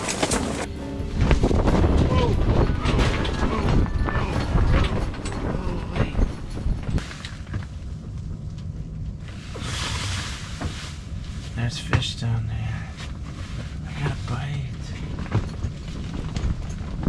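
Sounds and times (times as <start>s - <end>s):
wind buffeting fabric walls: 0.0s - 17.0s.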